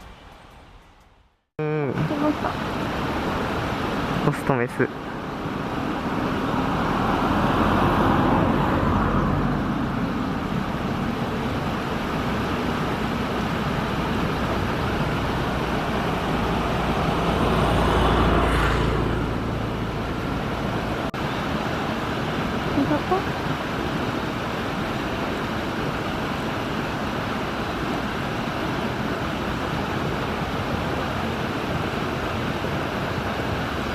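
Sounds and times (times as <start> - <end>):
stream rushing over rocks: 1.8 - 33.9.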